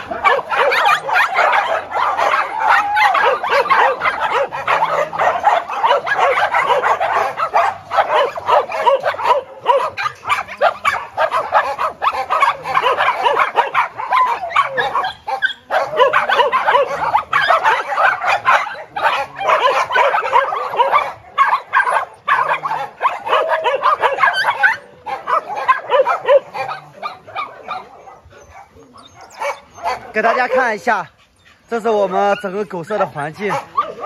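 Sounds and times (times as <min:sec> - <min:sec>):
dogs barking and yipping: 0:00.0 - 0:34.0.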